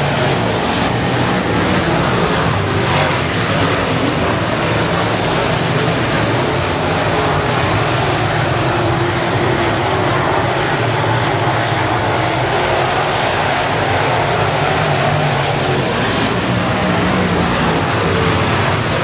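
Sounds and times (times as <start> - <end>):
race car engines running hard: 0.0 - 19.0.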